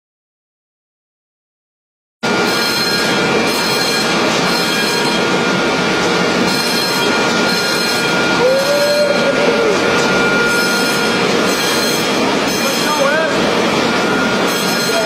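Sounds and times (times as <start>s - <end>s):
foam generator rushing noise: 2.2s - 15.0s
short rising and falling whine: 2.2s - 15.0s.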